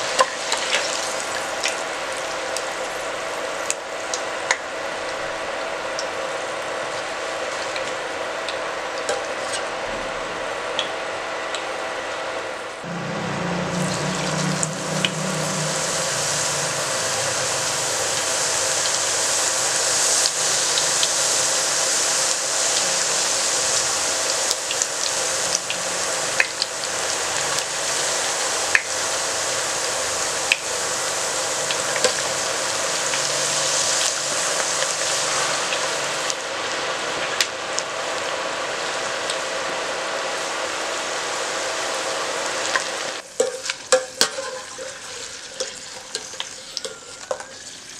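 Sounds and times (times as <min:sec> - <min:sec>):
potato slices sizzling in oil: 0:00.0 - 0:09.7, 0:13.0 - 0:47.9.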